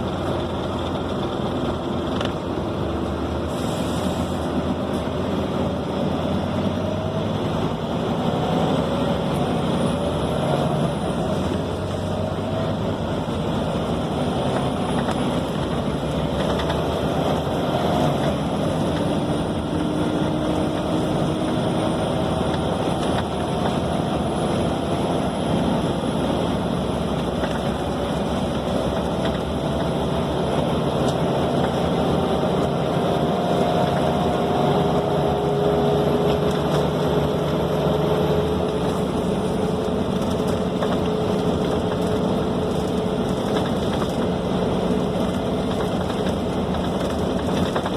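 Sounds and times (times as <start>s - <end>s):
bus engine and road noise: 0.0s - 47.9s.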